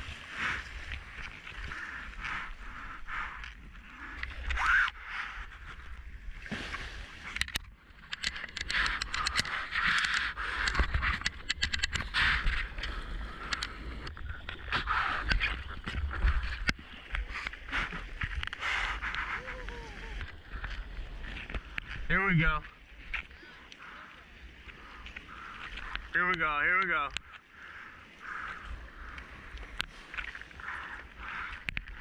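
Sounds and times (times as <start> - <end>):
water splashing around kayak: 0.0 - 32.0.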